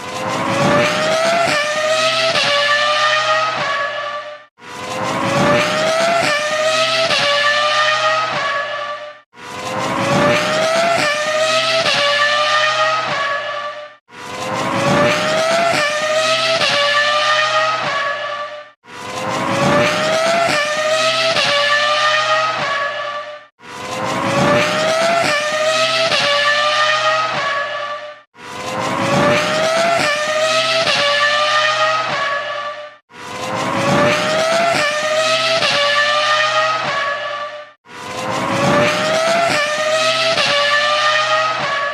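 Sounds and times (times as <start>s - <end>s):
racing car engine accelerating: 0.0s - 41.9s.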